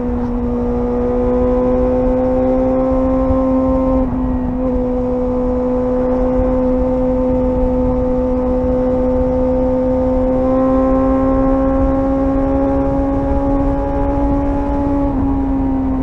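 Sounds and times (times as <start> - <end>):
motorcycle engine running: 0.0 - 16.0
wind noise rumble: 0.0 - 16.0.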